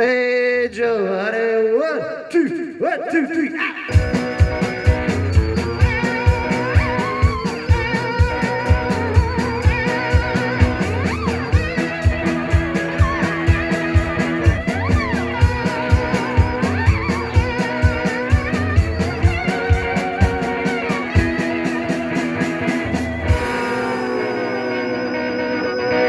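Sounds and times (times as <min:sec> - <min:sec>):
guitar chord sliding down: 0:03.9 - 0:26.0
rock band playing live: 0:03.9 - 0:26.0.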